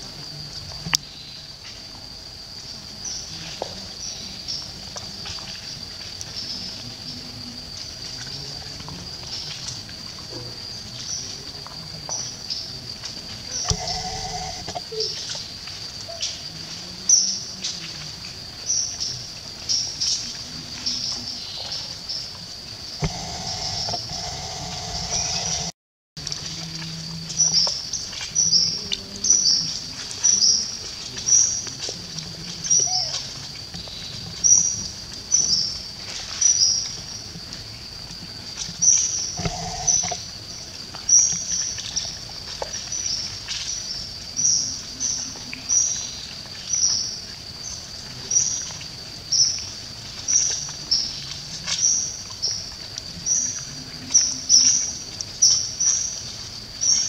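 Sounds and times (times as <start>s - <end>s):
high insect drone: 0.0s - 25.8s, 26.5s - 57.0s.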